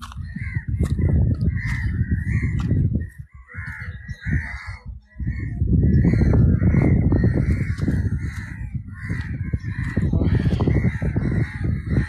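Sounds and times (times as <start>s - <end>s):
crows cawing: 0.0s - 12.0s
microphone handling noise: 0.0s - 12.0s
wind rumble on microphone: 0.0s - 12.0s.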